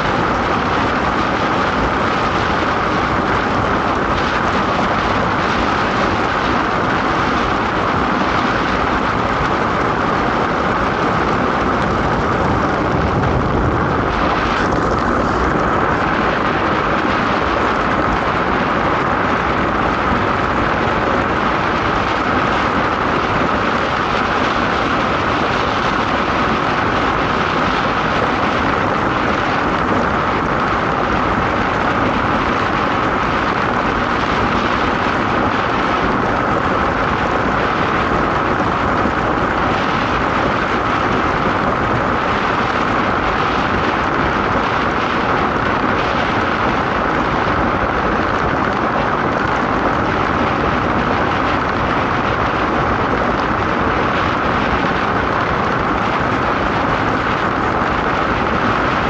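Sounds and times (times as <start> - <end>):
constant hum: 0.0 - 59.0
wind noise: 0.0 - 59.0.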